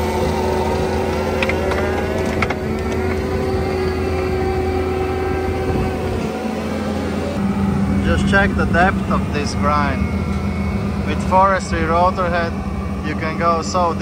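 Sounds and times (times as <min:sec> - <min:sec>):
diesel engine running under load: 0:00.0 - 0:14.0
mulcher grinding stumps: 0:00.0 - 0:14.0.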